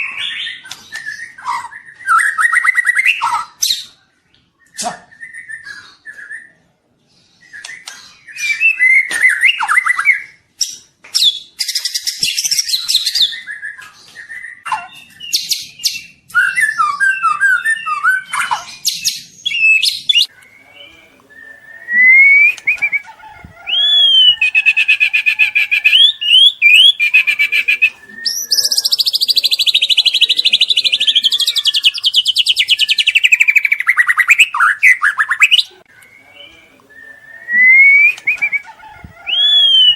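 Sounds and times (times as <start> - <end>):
songbird singing with trills: 7.4 - 39.9.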